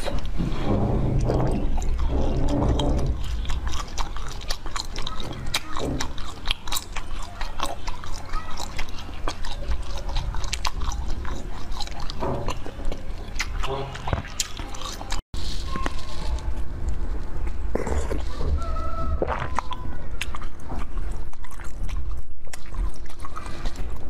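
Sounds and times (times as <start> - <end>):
biting and chewing corn: 0.0 - 24.0.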